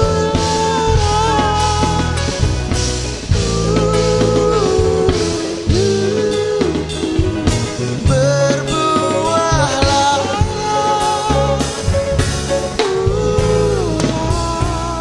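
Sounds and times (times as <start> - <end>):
band music with sliding melody: 0.0 - 15.0.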